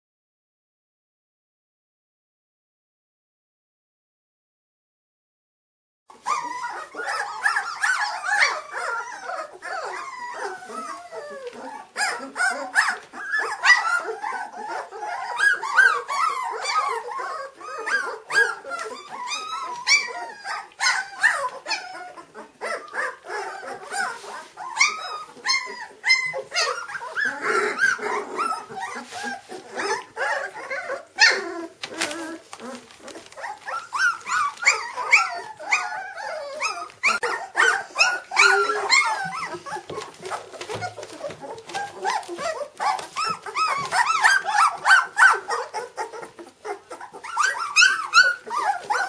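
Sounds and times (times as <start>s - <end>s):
puppies crying and yapping: 6.1s - 49.0s.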